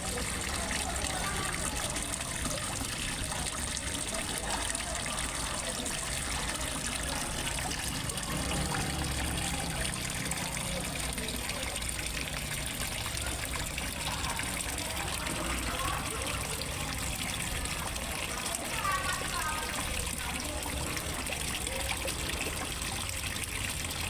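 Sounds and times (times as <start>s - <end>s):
water trickling into a pond: 0.0s - 24.0s.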